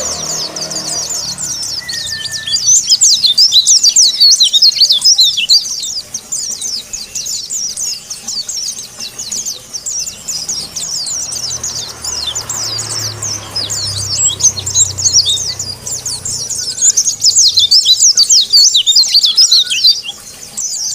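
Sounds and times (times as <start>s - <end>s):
bird singing rapid chirps: 0.0s - 20.9s.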